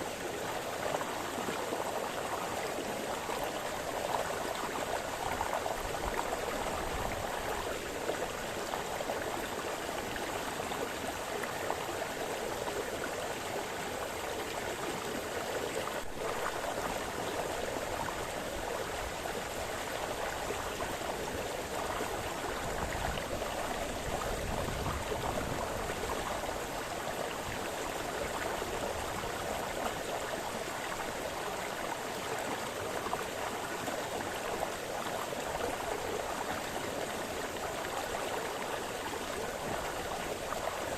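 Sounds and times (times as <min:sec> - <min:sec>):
brook burbling over stones: 0:00.0 - 0:40.9.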